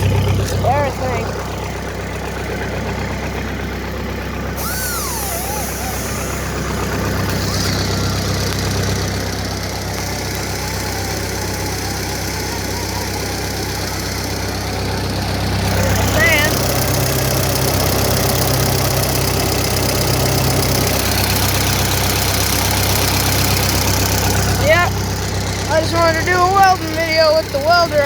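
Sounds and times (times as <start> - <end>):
welder engine idling: 0.0 - 28.0.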